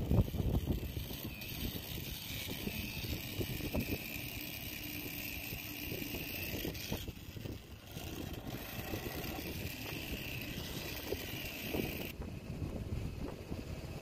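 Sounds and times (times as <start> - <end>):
wind blowing across microphone: 0.0 - 4.4, 5.0 - 14.0.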